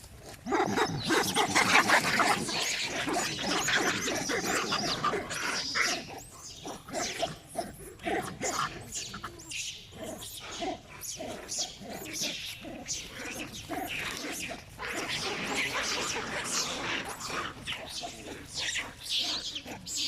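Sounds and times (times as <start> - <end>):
monkeys screaming and squealing: 0.2 - 20.0.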